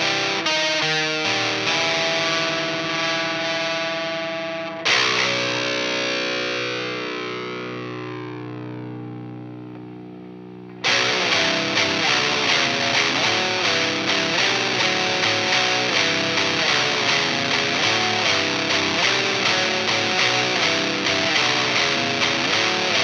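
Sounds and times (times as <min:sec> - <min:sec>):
overdriven electric guitar: 0:00.0 - 0:23.0.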